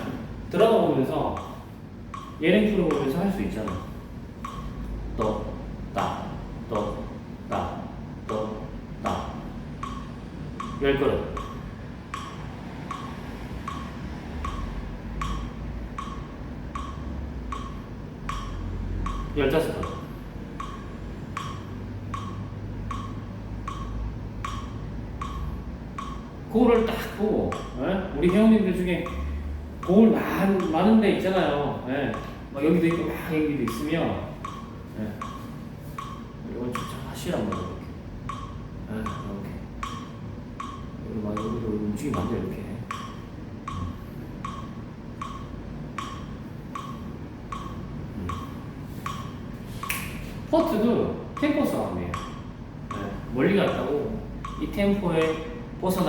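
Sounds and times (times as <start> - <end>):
low steady hum: 0.0 - 56.0
metronome clicking: 0.0 - 56.0.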